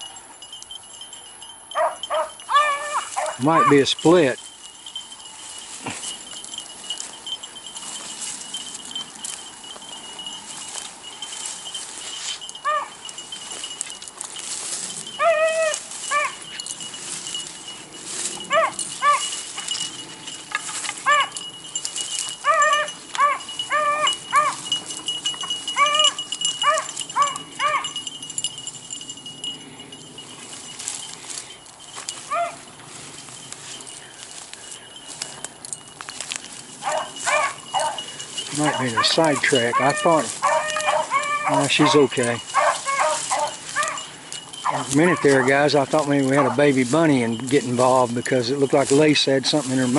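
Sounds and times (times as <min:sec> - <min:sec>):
dogs baying: 0:00.0 - 0:49.9.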